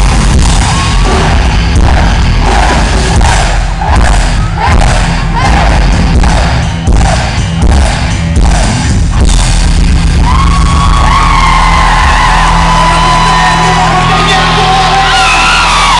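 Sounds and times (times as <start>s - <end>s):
loud live rock band: 0.0s - 15.9s.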